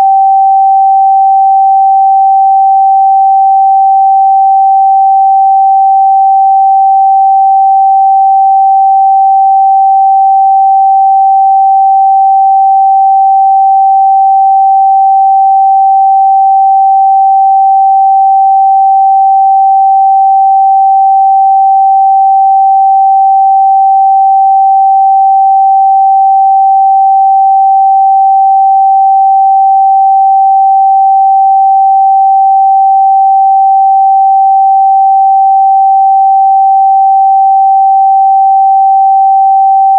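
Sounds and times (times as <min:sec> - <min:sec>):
steady sine-wave test tone: 0:00.0 - 0:39.9.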